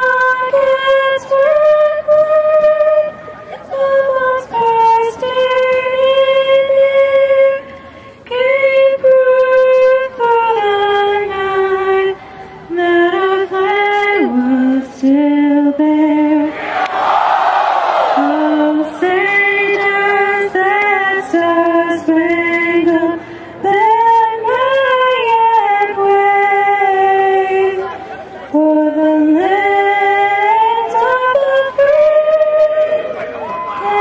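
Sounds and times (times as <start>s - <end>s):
woman singing unaccompanied: 0.0s - 16.6s, 18.2s - 27.9s, 28.5s - 34.0s.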